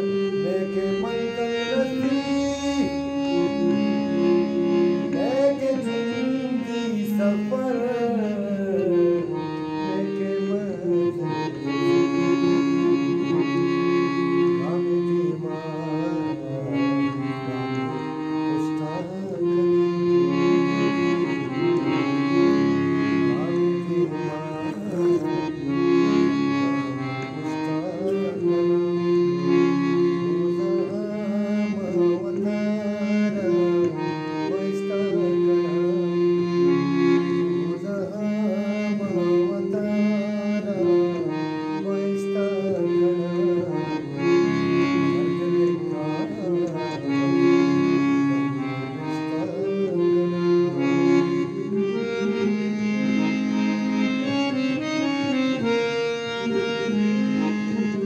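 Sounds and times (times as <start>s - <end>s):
man singing: 0.0s - 36.9s, 37.5s - 58.0s
harmonium playing: 0.0s - 58.0s.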